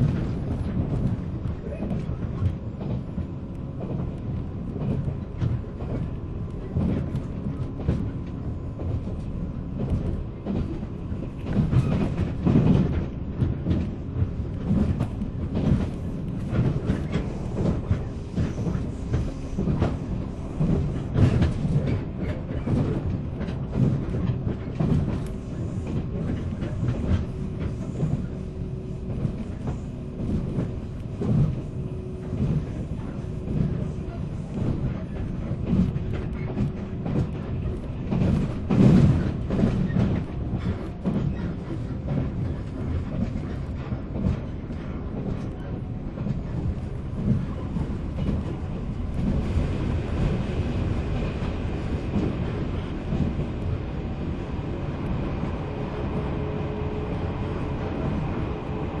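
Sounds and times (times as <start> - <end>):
train wheels clattering over rail joints: 0.0 - 54.6
rumble of train running gear: 0.0 - 59.0.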